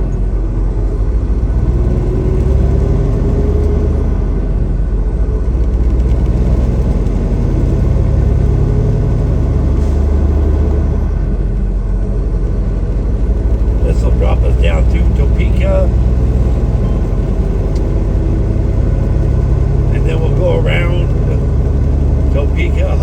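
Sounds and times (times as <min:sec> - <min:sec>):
road noise: 0:00.0 - 0:23.0
truck diesel engine rumbling: 0:00.0 - 0:23.0.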